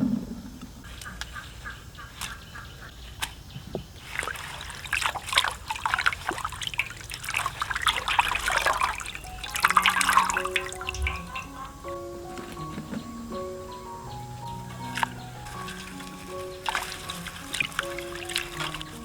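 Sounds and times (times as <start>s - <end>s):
water dripping: 3.2s - 19.0s
water sloshing and splashing: 3.2s - 19.0s
water trickling: 3.7s - 19.0s.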